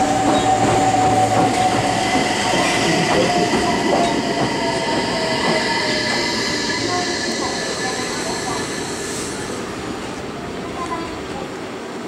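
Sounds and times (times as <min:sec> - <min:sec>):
electric train whine: 0:00.0 - 0:10.7
wheels clacking on rails: 0:00.0 - 0:11.4.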